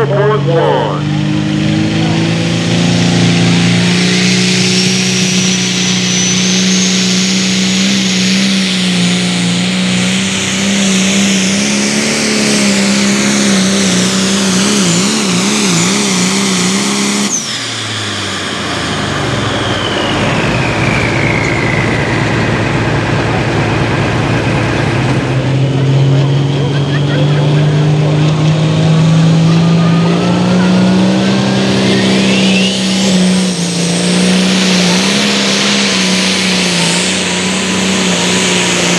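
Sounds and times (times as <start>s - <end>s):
diesel engine at full throttle: 0.0s - 38.9s
turbo whine: 0.0s - 38.9s.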